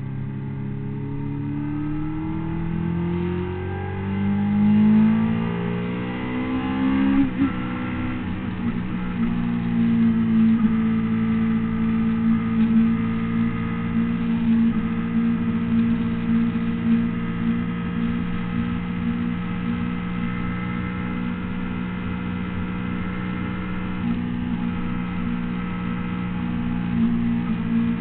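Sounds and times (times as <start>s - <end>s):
motorcycle engine under power: 0.0s - 28.0s.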